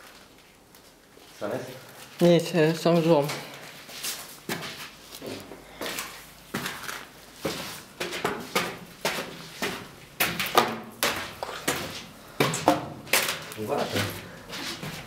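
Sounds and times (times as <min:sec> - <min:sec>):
footsteps on metal staircase: 0:02.9 - 0:15.0.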